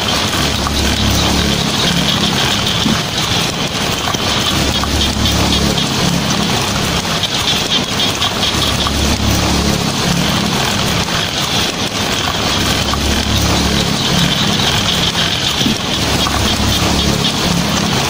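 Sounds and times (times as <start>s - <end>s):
heavy rain on a tin roof: 0.0s - 18.0s
thunder rumbling: 0.0s - 18.0s.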